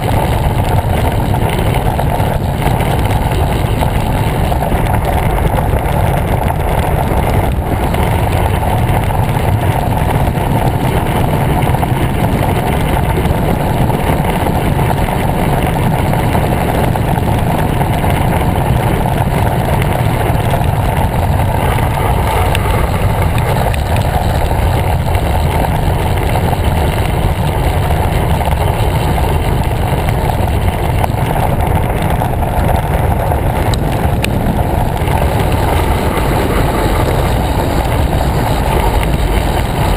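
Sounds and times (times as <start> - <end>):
wind rushing across microphone: 0.0 - 39.9.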